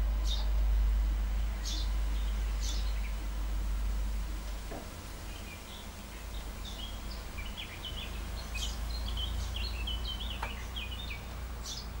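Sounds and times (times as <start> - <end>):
steady low rumble: 0.0 - 12.0
small birds chirping: 0.2 - 12.0.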